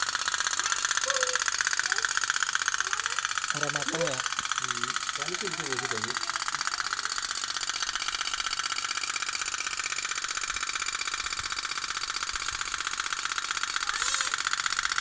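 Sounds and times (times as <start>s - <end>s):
toy steam boat popping: 0.0s - 15.0s.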